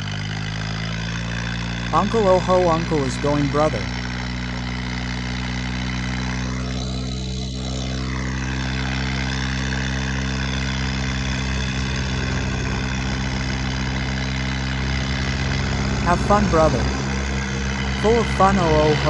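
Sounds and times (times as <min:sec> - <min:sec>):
tractor diesel engines under load: 0:00.0 - 0:19.0.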